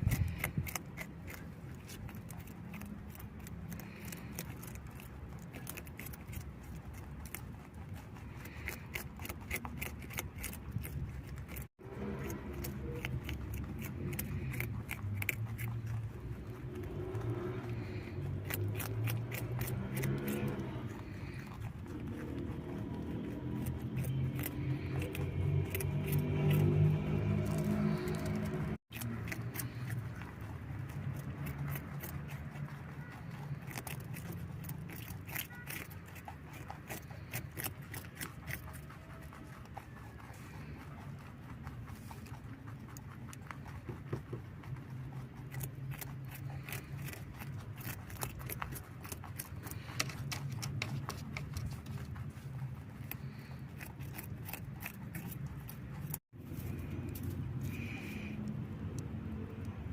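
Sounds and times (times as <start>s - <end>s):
rabbit crunching vegetables: 0.0s - 59.9s.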